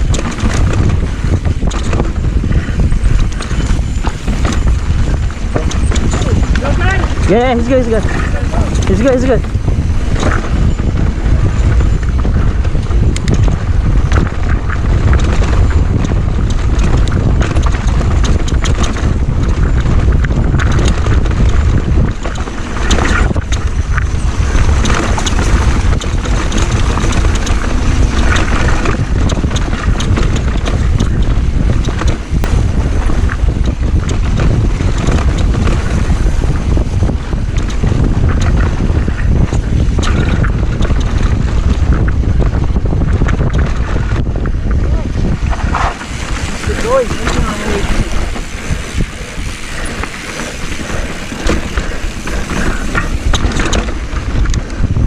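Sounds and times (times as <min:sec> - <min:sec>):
bike rattling on rocks: 0:00.0 - 0:55.0
wind buffeting microphone: 0:00.0 - 0:55.0.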